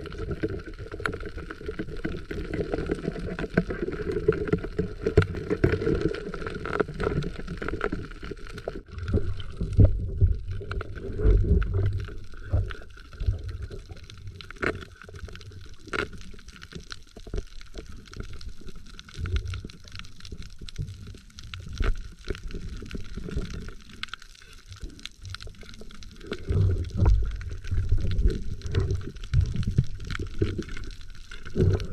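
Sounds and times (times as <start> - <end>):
muffled underwater rumble: 0.0 - 31.9.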